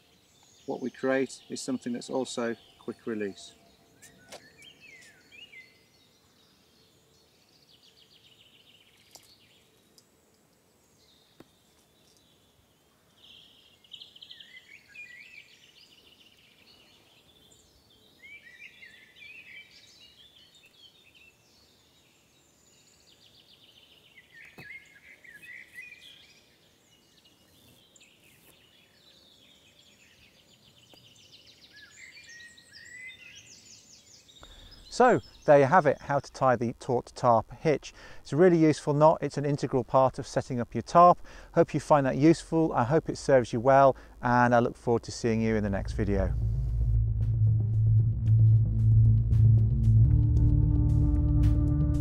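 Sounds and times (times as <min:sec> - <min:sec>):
faint songbirds trilling and chirping: 0:00.0 - 0:46.4.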